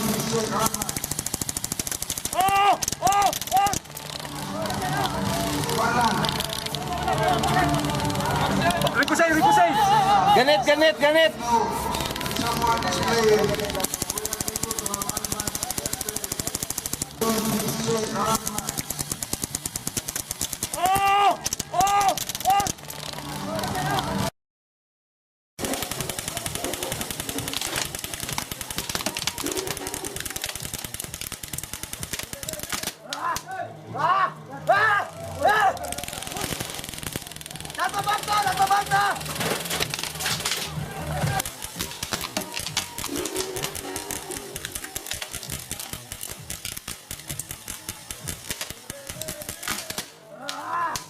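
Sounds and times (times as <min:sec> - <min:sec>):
airsoft guns firing full auto: 0:00.0 - 0:09.8, 0:11.9 - 0:23.5, 0:25.6 - 0:33.1, 0:35.8 - 0:50.2.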